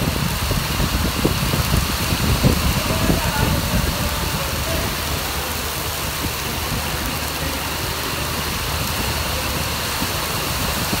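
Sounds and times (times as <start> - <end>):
heavy rain splashing on concrete: 0.0 - 11.0.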